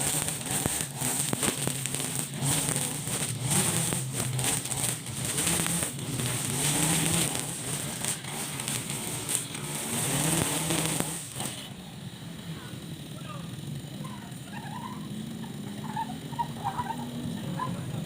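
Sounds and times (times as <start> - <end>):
brush cutter engine running: 0.0 - 18.0
cutting head crackles: 0.0 - 18.0.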